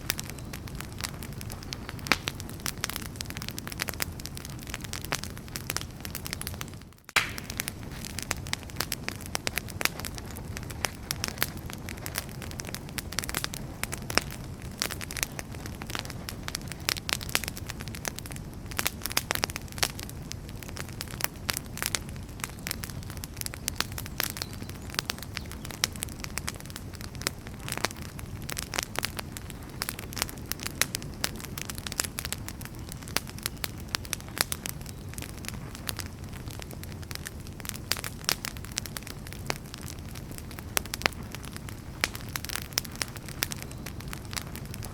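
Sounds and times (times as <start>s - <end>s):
firewood crackling and popping: 0.0s - 44.9s
wood fire burning: 0.0s - 44.9s.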